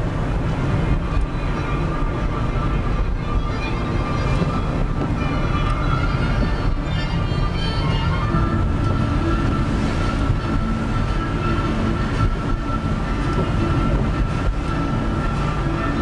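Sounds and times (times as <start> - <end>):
high whine: 0.0 - 16.0
vehicle rumble: 0.0 - 16.0.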